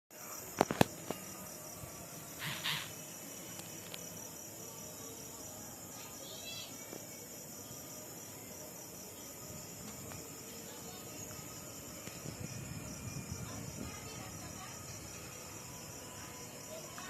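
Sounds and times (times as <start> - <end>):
insects trilling: 0.2 - 17.0.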